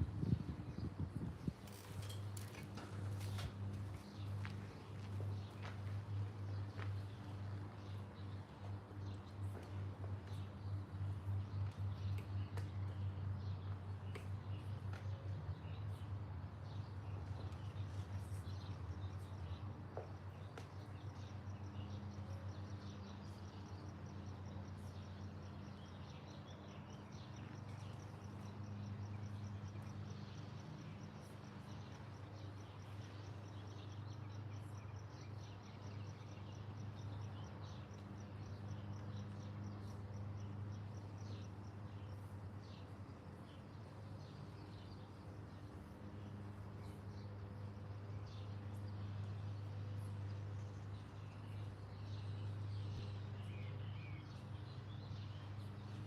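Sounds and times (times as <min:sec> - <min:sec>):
birds chirping: 0:00.2 - 0:56.0.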